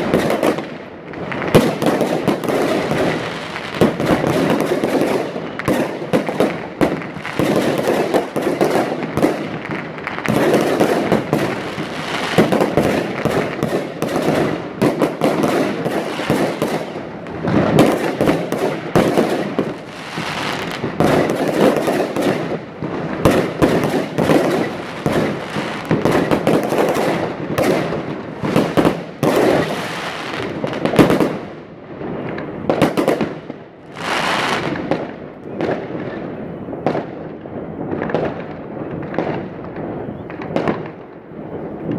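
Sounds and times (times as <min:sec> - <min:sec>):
fireworks bangs and pops: 0:00.0 - 0:41.9.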